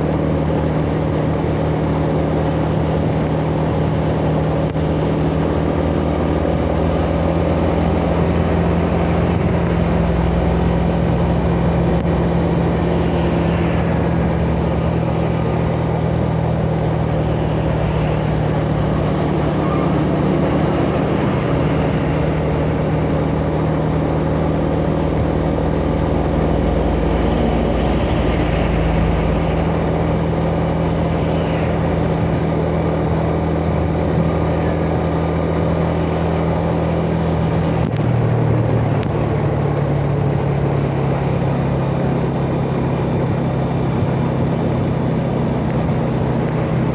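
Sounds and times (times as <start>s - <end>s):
road and wind noise: 0.0s - 46.9s.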